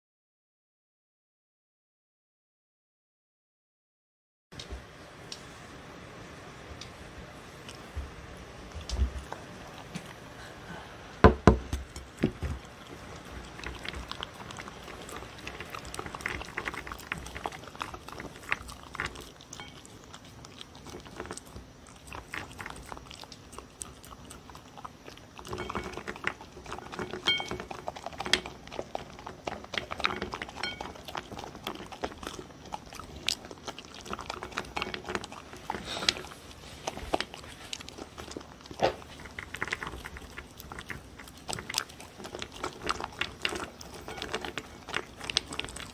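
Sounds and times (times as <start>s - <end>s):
dog crunching and chewing food: 7.5s - 10.4s, 11.8s - 45.9s.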